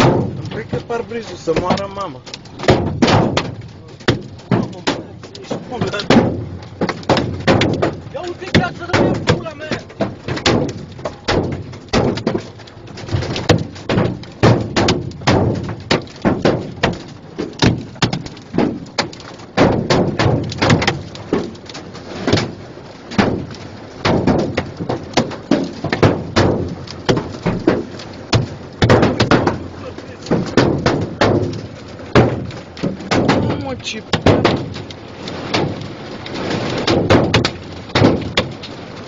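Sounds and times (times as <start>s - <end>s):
hailstones hitting car roof: 0.0s - 39.0s.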